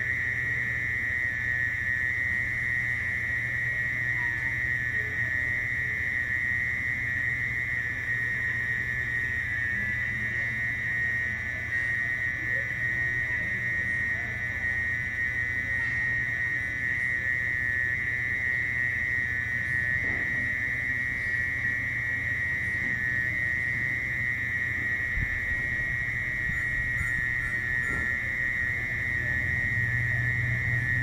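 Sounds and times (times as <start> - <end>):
cricket shrill trill: 0.0 - 31.0.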